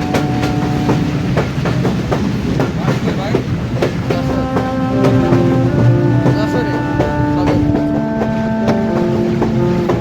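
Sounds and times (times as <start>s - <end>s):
steady tones: 0.0s - 10.0s
train rumble: 0.0s - 10.0s
train wheels clicking on rails: 0.0s - 10.0s.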